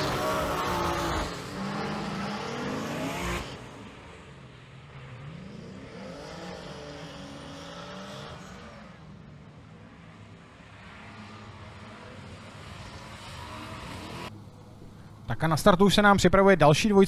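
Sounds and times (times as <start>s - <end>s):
distant car engines revving: 0.0s - 15.3s.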